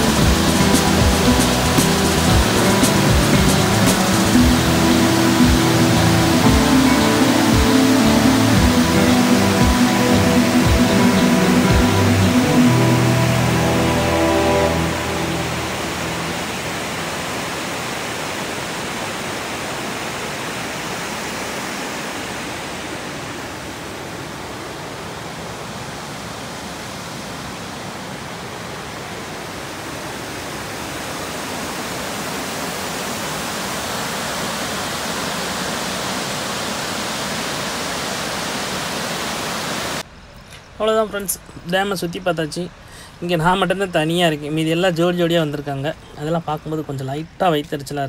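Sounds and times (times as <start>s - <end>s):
water rushing through spillway: 0.0s - 40.6s.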